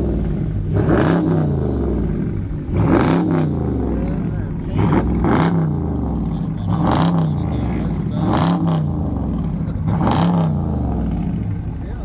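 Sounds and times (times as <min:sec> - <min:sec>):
car exhaust revving: 0:00.0 - 0:12.0.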